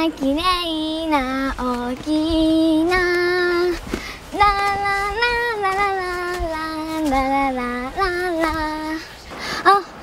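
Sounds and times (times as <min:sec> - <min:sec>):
girl singing: 0:00.0 - 0:10.0.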